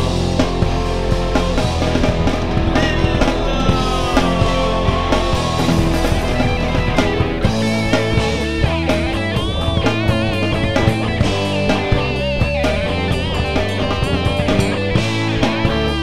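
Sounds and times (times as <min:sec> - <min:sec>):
instrumental rock band: 0:00.0 - 0:16.0.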